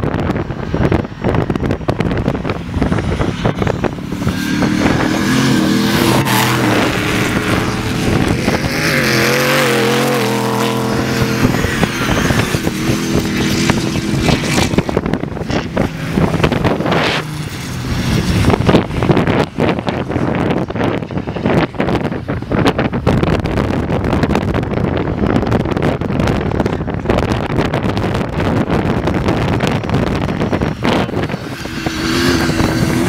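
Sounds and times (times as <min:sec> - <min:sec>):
race truck engines revving: 0:00.0 - 0:33.0
wind buffeting microphone: 0:00.0 - 0:33.0.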